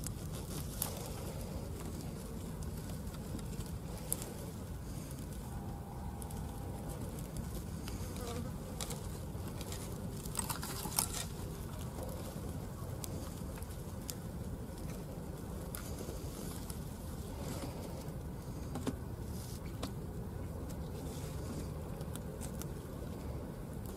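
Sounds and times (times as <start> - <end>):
dry grass rustling and crackling: 0.0 - 23.9
steady low hum: 0.0 - 23.9.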